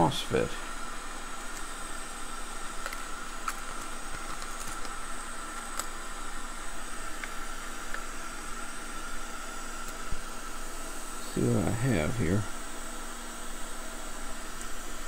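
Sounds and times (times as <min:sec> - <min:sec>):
faint high whine: 0:00.0 - 0:15.0
steady hiss: 0:00.0 - 0:15.0.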